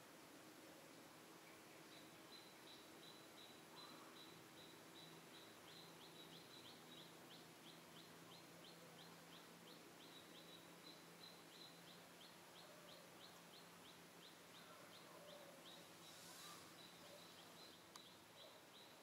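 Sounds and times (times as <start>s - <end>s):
faint high chirps: 1.4s - 19.0s.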